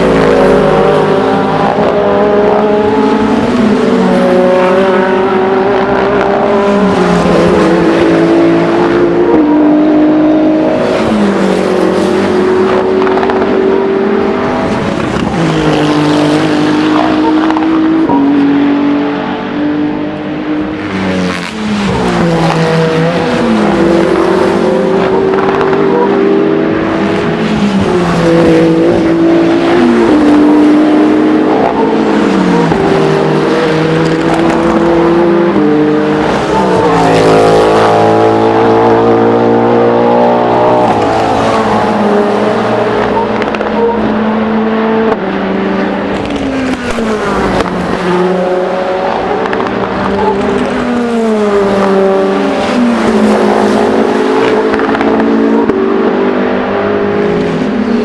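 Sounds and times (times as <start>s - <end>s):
race car engines shifting gears: 0.0s - 58.0s.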